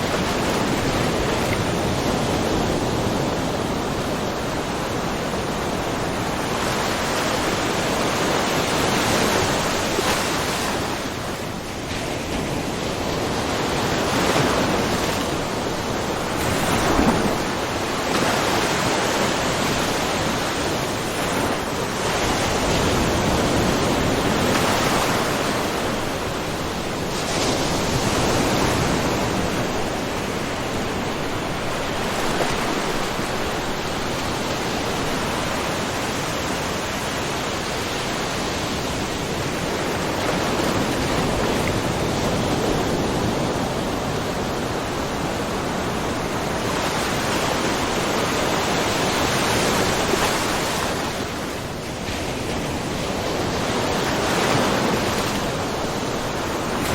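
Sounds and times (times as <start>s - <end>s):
small waves lapping on shore: 0.0s - 56.9s.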